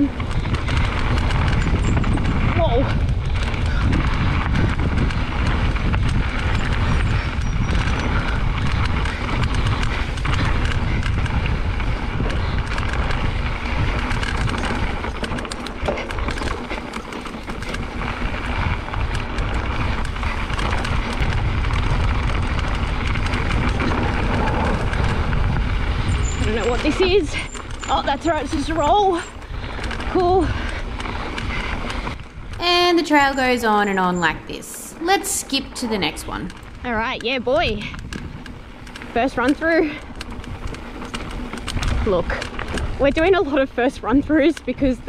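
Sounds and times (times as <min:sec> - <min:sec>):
bike rattling and knocking: 0:00.0 - 0:45.0
bike tyres rolling on dirt: 0:00.0 - 0:45.0
wind buffeting microphone: 0:00.0 - 0:45.0.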